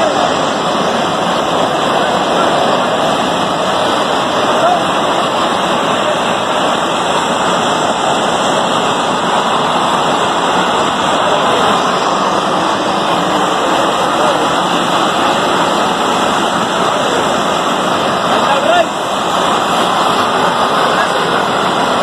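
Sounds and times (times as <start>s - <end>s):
steam hissing: 0.0s - 22.0s.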